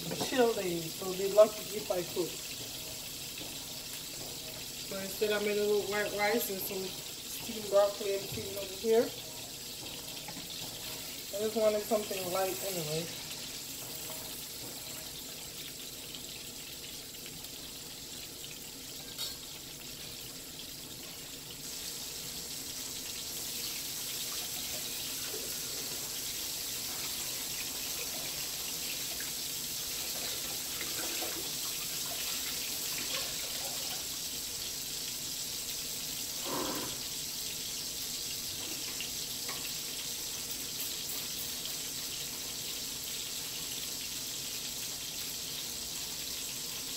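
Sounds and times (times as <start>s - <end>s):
fish fillets sizzling in oil: 0.0s - 46.9s.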